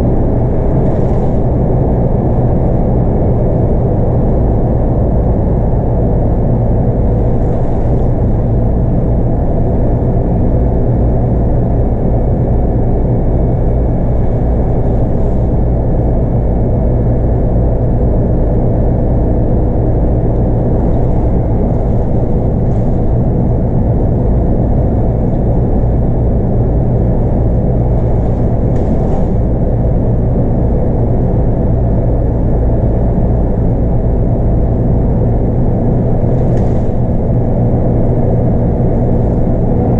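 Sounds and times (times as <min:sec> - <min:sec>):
diesel bus engine running: 0:00.0 - 0:39.9
road rumble: 0:00.0 - 0:39.9.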